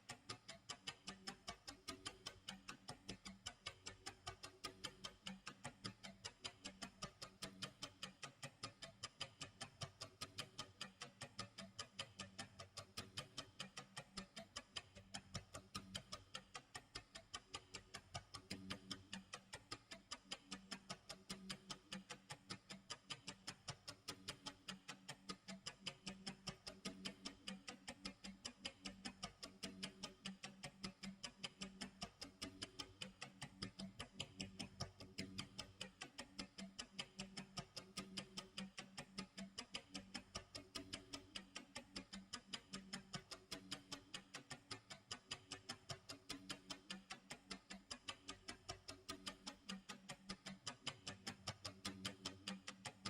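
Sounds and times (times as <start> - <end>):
clock ticking: 0.0 - 53.0.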